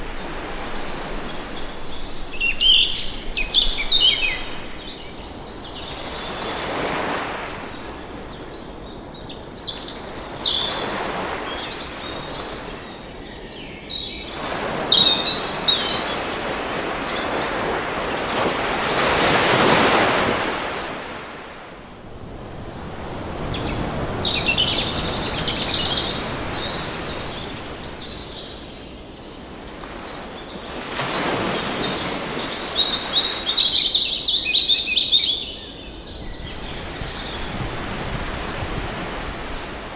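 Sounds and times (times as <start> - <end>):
birds chirping and trilling: 0.0 - 21.2, 23.3 - 39.9
ocean surf washing: 0.0 - 39.9.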